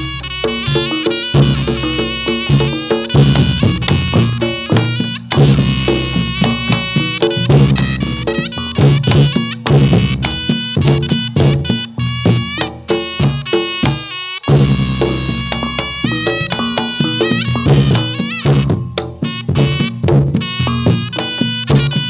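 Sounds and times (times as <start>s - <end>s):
drums: 0.0s - 22.0s
reed shawm melody: 0.0s - 22.0s.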